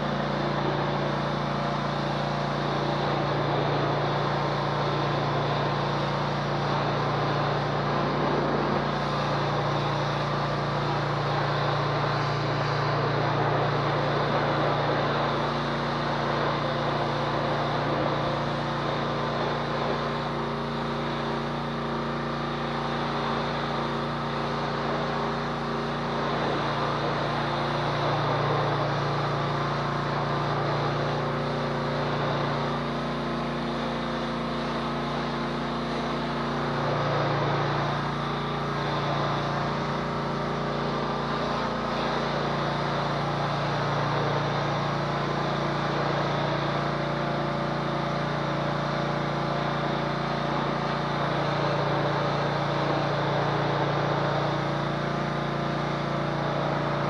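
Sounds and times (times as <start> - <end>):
pressure washer engine humming: 0.0 - 57.0
water jet spraying: 0.0 - 57.0.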